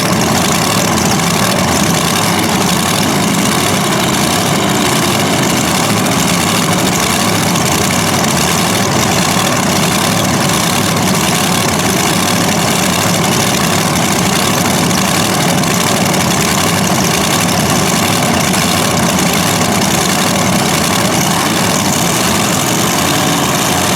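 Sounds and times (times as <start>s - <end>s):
tractor engines idling loudly: 0.0s - 23.9s.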